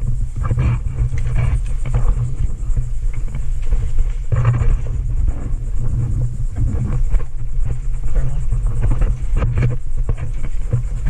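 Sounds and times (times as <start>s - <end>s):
low rumble on microphone: 0.0s - 11.0s
rustling: 0.0s - 11.0s.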